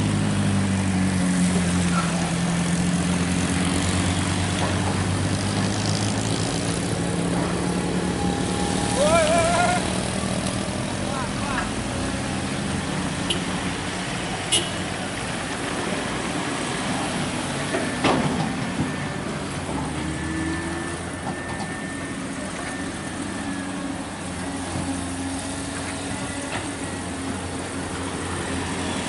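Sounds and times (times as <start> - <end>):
heavy vehicle engine running: 0.0 - 29.0.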